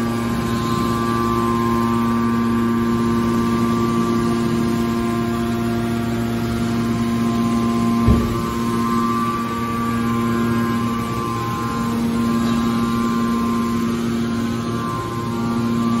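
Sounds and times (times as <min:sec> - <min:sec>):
hydraulic pump humming and whining: 0:00.0 - 0:16.0.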